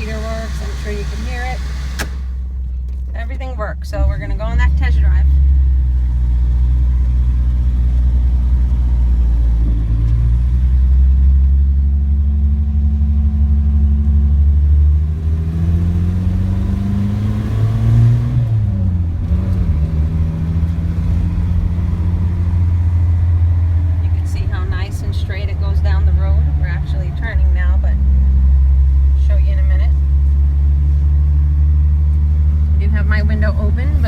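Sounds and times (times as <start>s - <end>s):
pickup engine accelerating: 0.0s - 34.0s.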